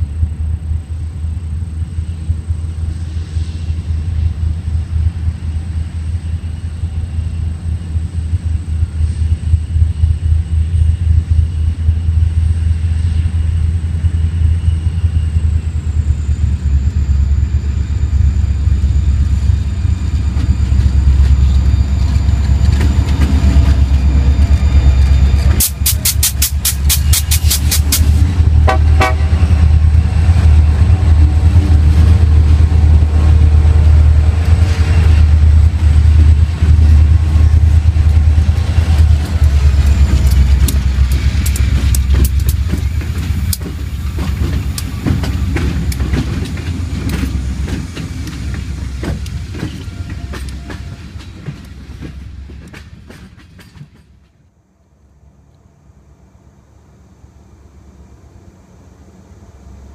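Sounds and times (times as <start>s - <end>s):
locomotive engine rumble: 0.0s - 54.4s
train wheels clacking on rails: 1.5s - 54.4s.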